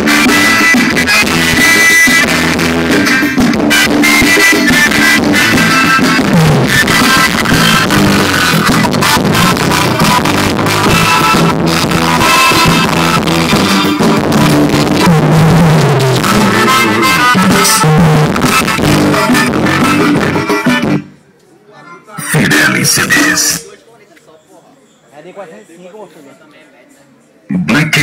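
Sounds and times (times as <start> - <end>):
loud music with steady beat: 0.0 - 21.1, 22.2 - 23.6.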